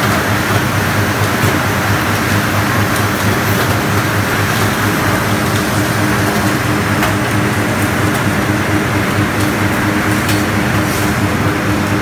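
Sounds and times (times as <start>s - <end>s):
machinery humming loudly: 0.0s - 12.0s.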